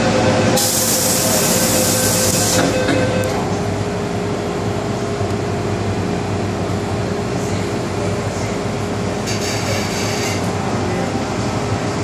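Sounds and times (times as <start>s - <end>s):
subway car cabin hum: 0.0s - 12.0s.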